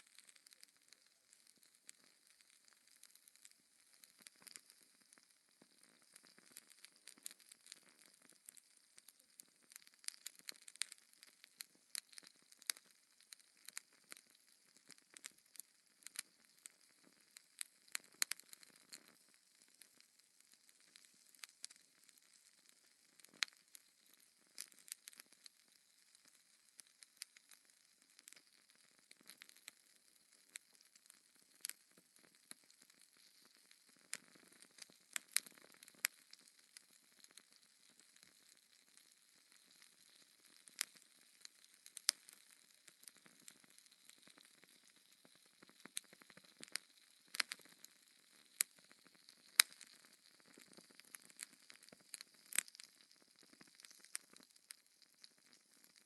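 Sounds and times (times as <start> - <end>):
wood fire crackling: 0.0 - 5.2, 5.8 - 8.3, 9.7 - 12.9, 13.5 - 27.5, 28.2 - 29.6, 32.7 - 56.0.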